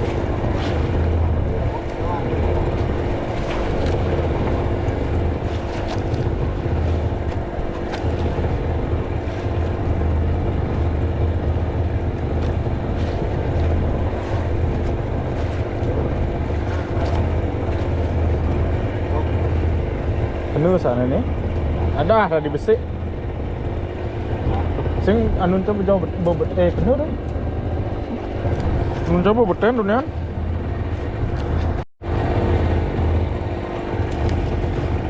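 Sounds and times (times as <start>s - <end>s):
motor running with low drone: 0.0s - 35.0s.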